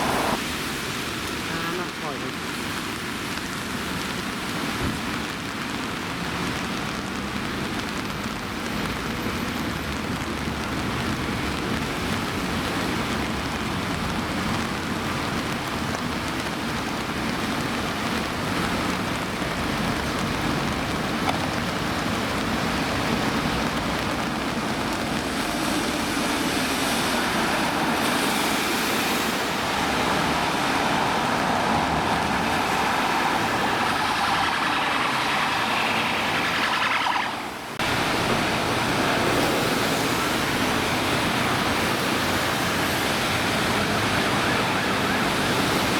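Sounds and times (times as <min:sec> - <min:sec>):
heavy rain hiss: 0:00.0 - 0:09.0, 0:11.6 - 0:45.9
tyres spraying on wet road: 0:00.0 - 0:45.9.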